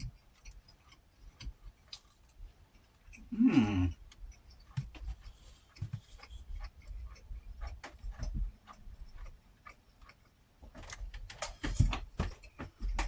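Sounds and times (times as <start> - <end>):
chewing sounds: 0.0 - 11.7.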